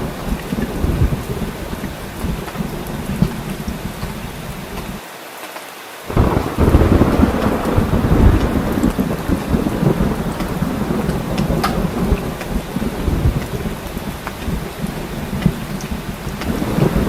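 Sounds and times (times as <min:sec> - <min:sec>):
rolling thunder: 0:00.0 - 0:04.9, 0:06.1 - 0:17.0
heavy rain: 0:00.0 - 0:17.0.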